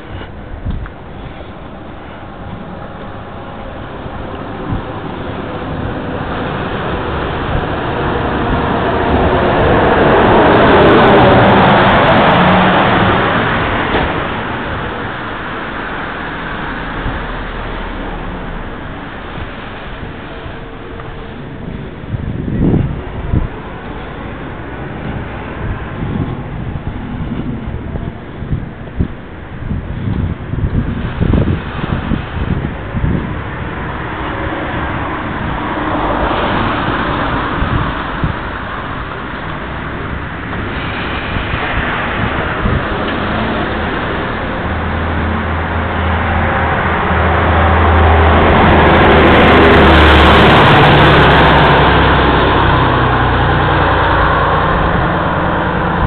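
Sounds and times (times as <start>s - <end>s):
steady rushing noise: 0.0s - 56.0s
vehicle passing: 0.0s - 56.0s
wind rumble on microphone: 0.0s - 56.0s.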